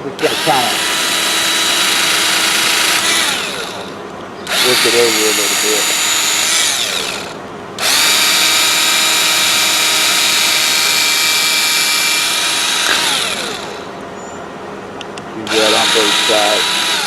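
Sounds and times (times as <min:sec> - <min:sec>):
high-speed power tool whining: 0:00.0 - 0:17.0.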